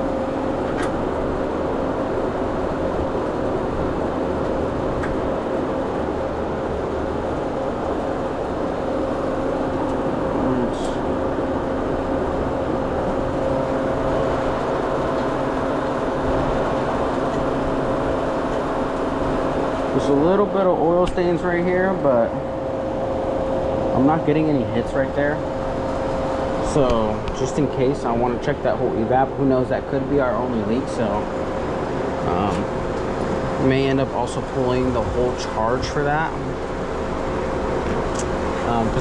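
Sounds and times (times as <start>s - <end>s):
kitchen machinery humming: 0.0s - 39.0s.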